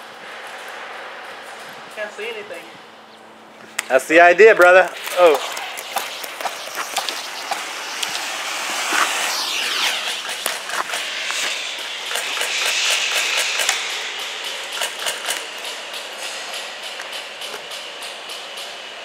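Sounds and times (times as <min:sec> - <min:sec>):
steady hiss: 0:03.7 - 0:19.0.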